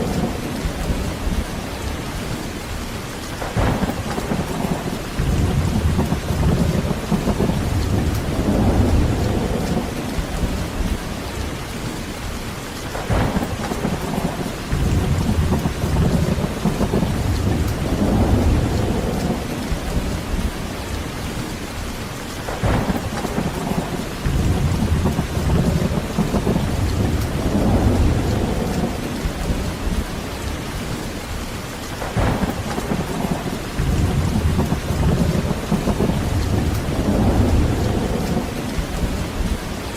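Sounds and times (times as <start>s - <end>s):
rolling thunder: 0.0s - 2.3s, 3.4s - 11.6s, 12.9s - 21.5s, 22.5s - 31.1s, 31.9s - 39.9s
heavy rain falling: 0.0s - 39.9s.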